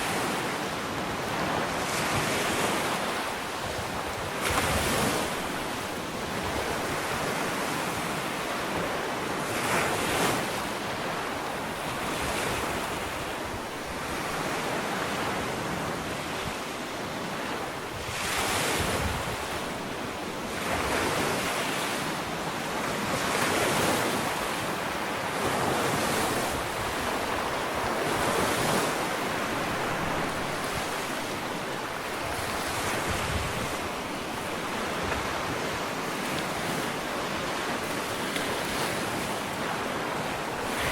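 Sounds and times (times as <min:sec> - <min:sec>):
ocean waves washing onto beach: 0:00.0 - 0:40.9.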